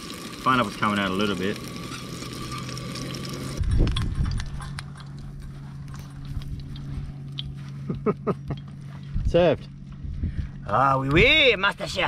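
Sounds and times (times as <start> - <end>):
steady low hum: 1.5 - 11.9.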